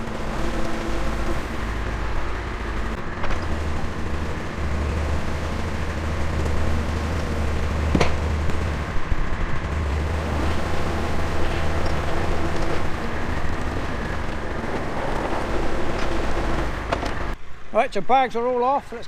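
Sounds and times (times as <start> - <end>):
tractor engine running: 0.0 - 17.4.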